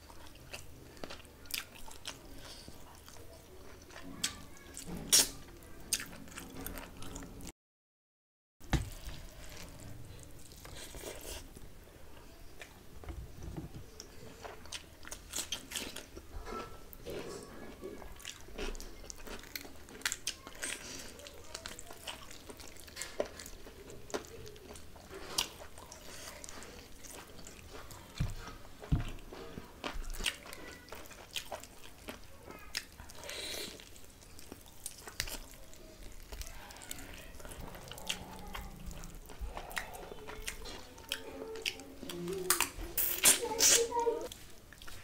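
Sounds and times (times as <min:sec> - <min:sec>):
wet chewing and biting: 0:00.0 - 0:07.3, 0:14.0 - 0:45.0.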